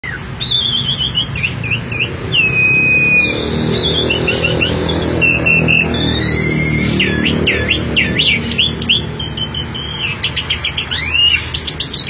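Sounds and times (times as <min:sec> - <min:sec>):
bird singing loud whistles: 0:00.0 - 0:12.0.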